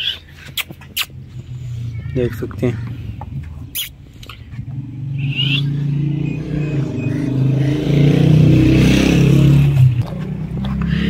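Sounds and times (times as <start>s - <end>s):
vehicle engine running: 1.2s - 11.0s.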